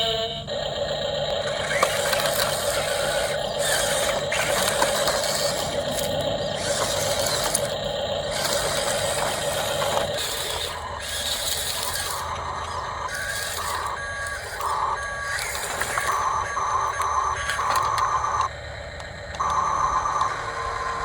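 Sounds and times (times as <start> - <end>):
electronic beeps: 0.0 - 18.5, 19.4 - 21.0
electric motor whining: 0.0 - 21.0.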